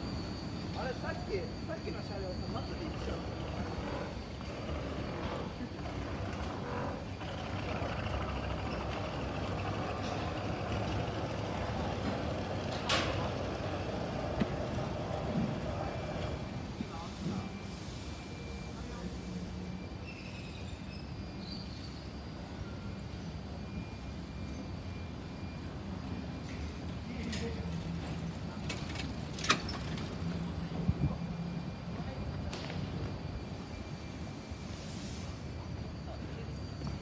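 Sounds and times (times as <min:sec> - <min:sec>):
faint high whine: 0:00.0 - 0:37.0.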